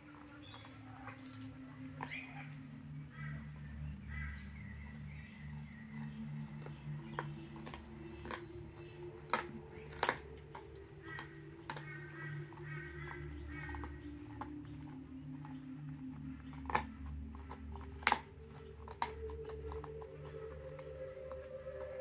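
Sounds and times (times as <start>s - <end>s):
dog crunching bone: 0.0s - 22.0s.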